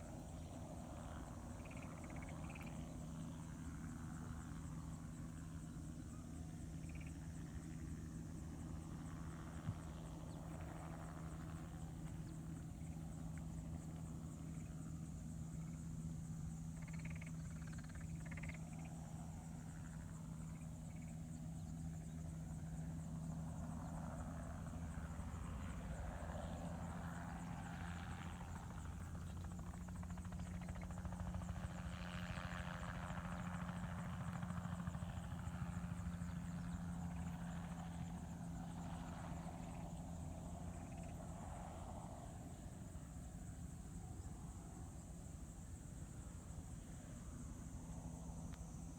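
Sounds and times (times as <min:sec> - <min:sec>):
distant helicopter engine and rotor: 0:00.0 - 0:48.9.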